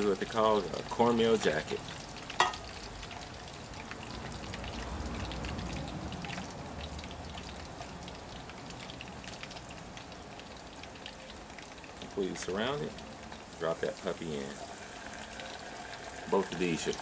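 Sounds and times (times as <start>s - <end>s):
fries sizzling in hot oil: 0.0s - 17.0s.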